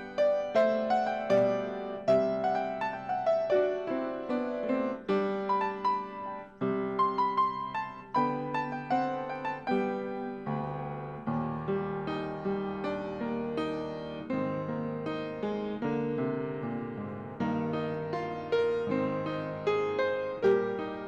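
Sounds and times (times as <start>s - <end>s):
slow solo piano piece: 0.0s - 21.0s.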